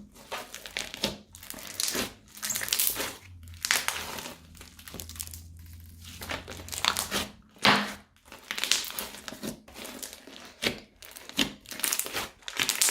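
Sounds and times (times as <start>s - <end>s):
hands squeezing crackling slime: 0.2s - 7.3s, 8.2s - 12.9s.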